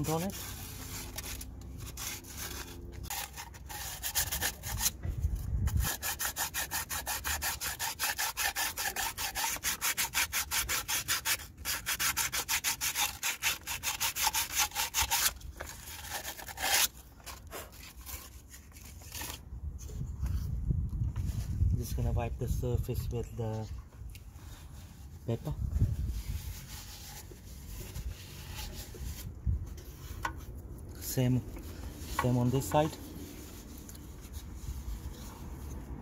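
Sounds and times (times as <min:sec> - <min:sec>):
sandpaper rubbing on metal: 0:00.0 - 0:05.0, 0:05.7 - 0:19.4, 0:24.4 - 0:35.8.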